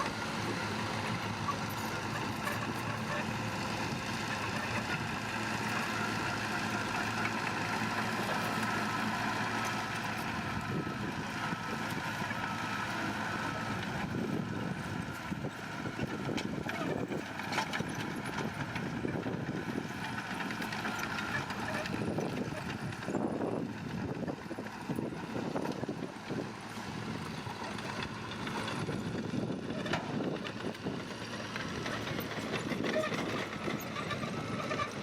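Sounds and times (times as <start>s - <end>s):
construction machine engine running: 0.0s - 35.0s.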